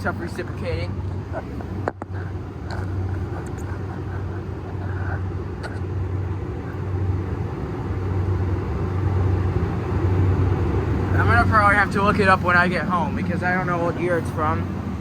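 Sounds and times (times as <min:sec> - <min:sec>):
air conditioner units humming: 0:00.0 - 0:15.0.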